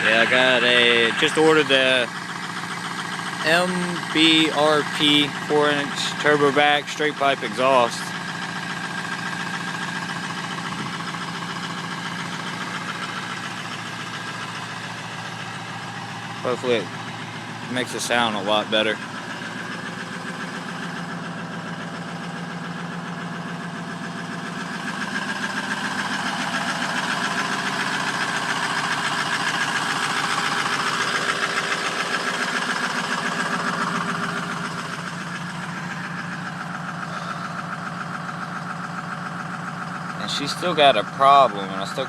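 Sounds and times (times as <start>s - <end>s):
diesel engine idling clatter: 0.0s - 42.0s.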